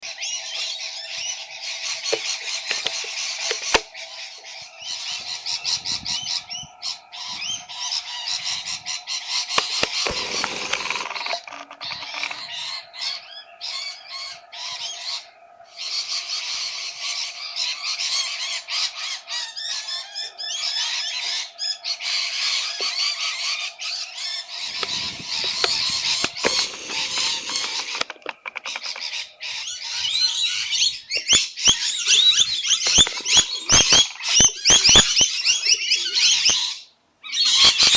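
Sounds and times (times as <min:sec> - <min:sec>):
parrots screeching and chattering: 0:00.0 - 0:37.9.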